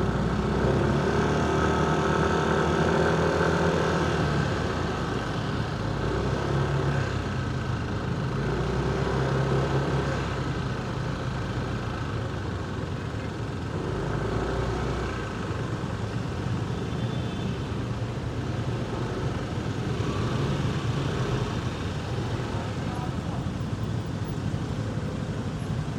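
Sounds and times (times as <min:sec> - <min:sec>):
road noise: 0:00.0 - 0:25.9
traffic engines idling: 0:00.0 - 0:25.9.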